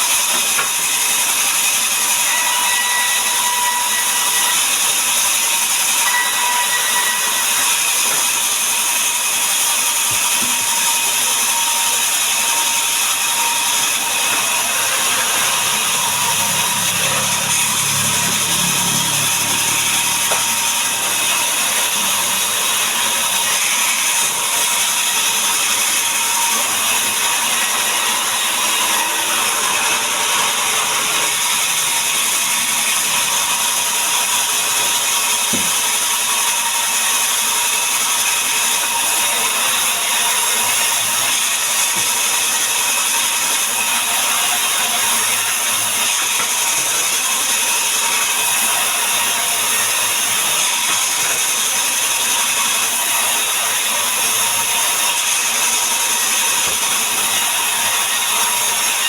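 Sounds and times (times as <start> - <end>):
power saw cutting timber: 0.0 - 59.0.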